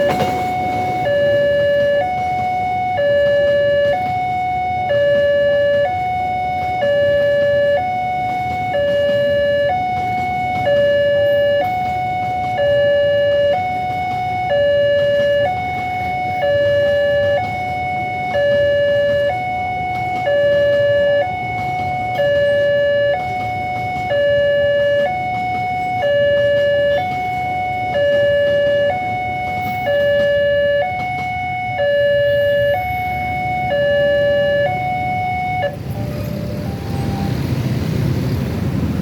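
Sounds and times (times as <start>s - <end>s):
level crossing two-tone alarm: 0.0s - 37.4s.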